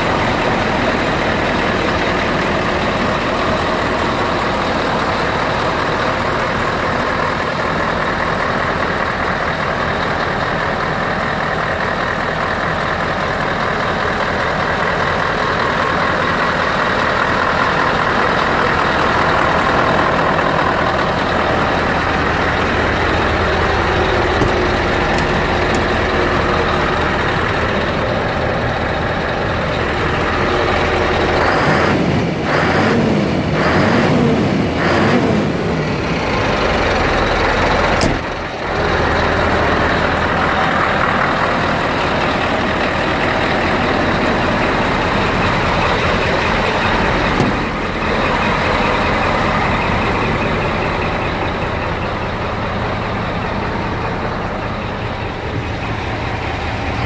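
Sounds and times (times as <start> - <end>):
truck diesel engines idling: 0.0 - 57.0.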